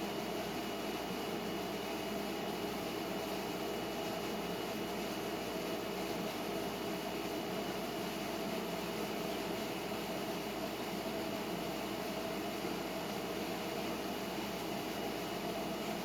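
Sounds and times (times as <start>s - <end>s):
background hiss and hum: 0.0s - 16.0s.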